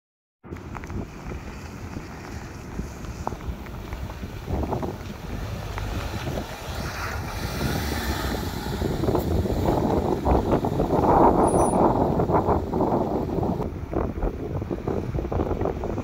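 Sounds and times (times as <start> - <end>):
car engine rumble: 0.4 - 16.0
wind buffeting microphone: 0.5 - 16.0.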